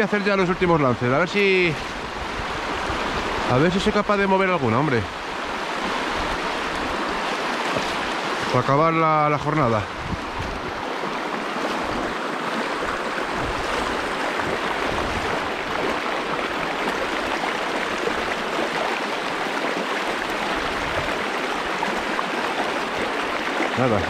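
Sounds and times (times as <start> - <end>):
river rushing over stones: 0.0 - 24.0.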